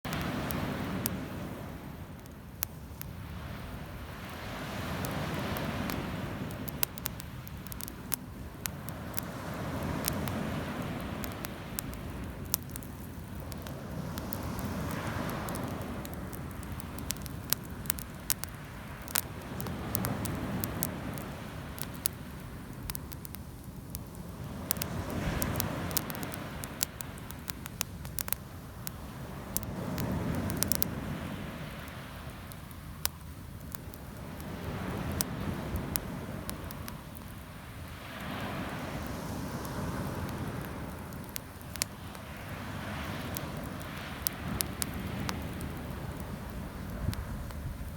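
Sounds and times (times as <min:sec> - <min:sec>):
campfire crackling and popping: 0:00.0 - 0:47.9
sea waves washing: 0:00.0 - 0:47.9.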